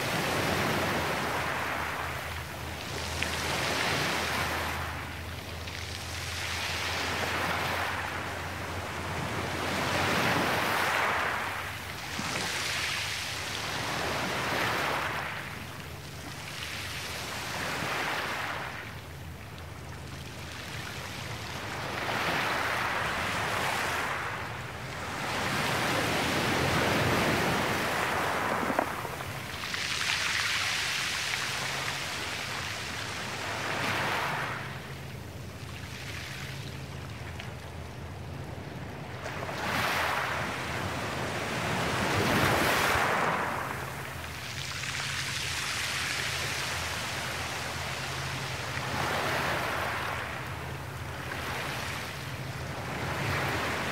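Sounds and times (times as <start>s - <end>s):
waves washing up pebble beach: 0.0s - 18.9s, 20.8s - 36.9s, 39.4s - 53.9s.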